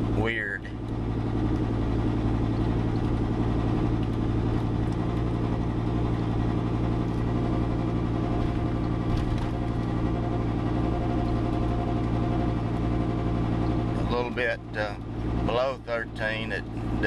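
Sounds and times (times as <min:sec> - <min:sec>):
engine exhaust drone: 0:00.0 - 0:17.0
exhaust system vibration: 0:00.0 - 0:17.0.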